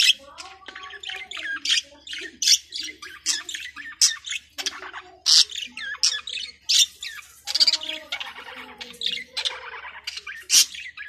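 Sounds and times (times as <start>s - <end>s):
budgerigar chirping and squawking: 0.0s - 11.0s.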